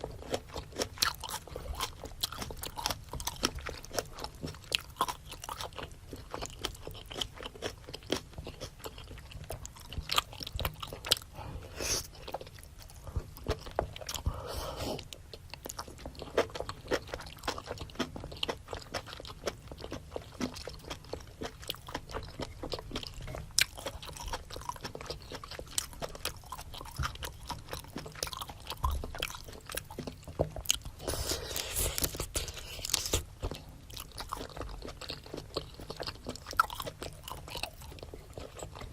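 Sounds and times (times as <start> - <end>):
wet chewing with crunchy clicks: 0.0 - 11.4, 12.0 - 38.9.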